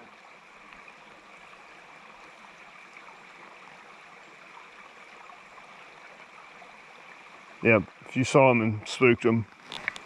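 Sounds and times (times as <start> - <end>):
brook flowing water: 0.0 - 10.0.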